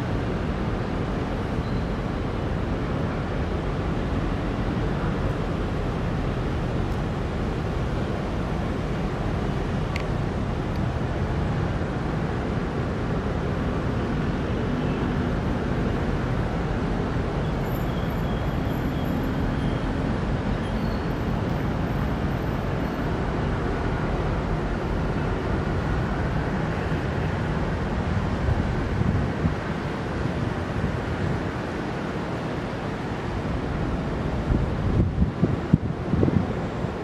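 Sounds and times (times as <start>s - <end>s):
distant city traffic rumble: 0.0s - 37.0s.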